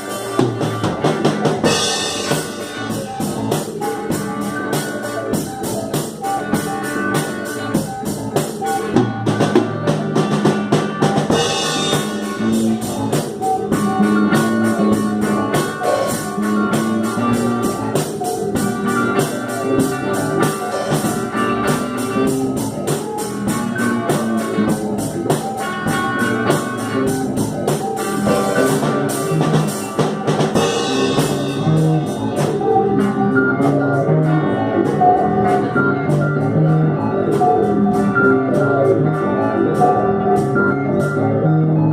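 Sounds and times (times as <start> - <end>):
drum kit beat: 0.0 - 41.7
psychedelic rock band playing: 0.0 - 41.9.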